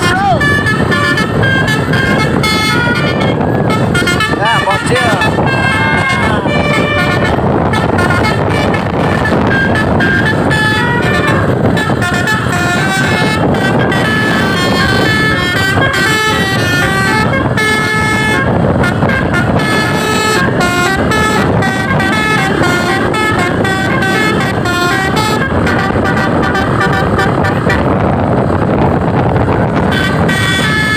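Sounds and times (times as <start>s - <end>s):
bus horn playing melody: 0.0s - 30.9s.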